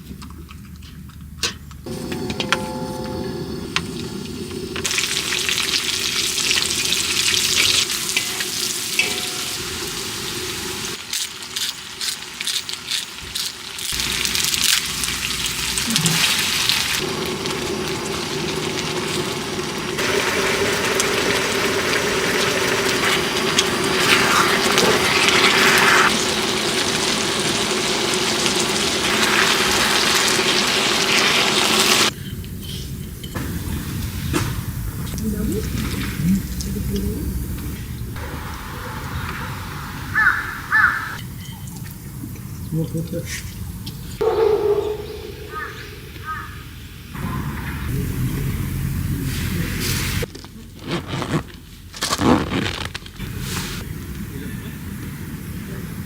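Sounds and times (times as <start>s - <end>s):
food sizzling in a pan: 1.9s - 44.3s, 45.0s - 50.3s.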